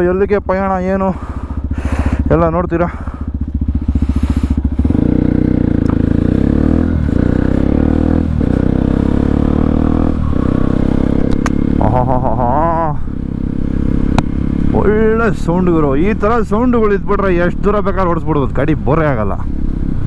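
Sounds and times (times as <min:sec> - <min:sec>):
motorcycle engine pulling away: 0:01.2 - 0:20.0.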